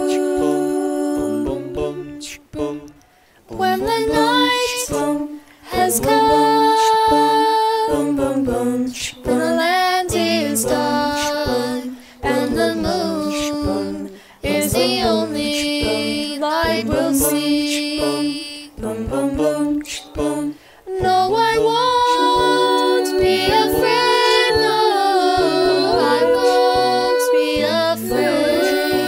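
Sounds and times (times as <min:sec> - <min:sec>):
girls singing a cappella: 0:00.0 - 0:29.0.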